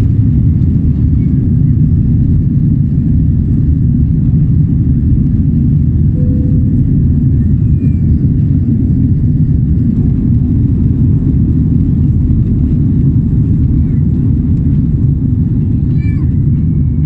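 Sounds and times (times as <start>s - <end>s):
airliner engine rumble: 0.0s - 17.0s.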